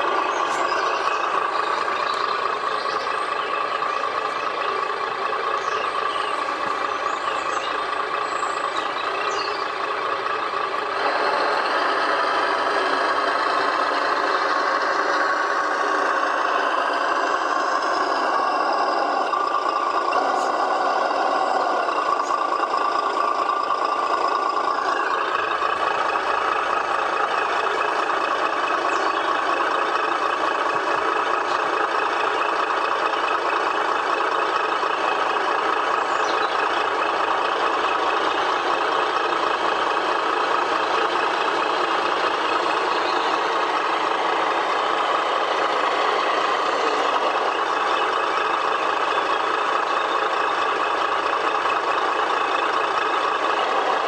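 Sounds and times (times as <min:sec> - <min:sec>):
electronic truck engine idling: 0:00.0 - 0:54.0.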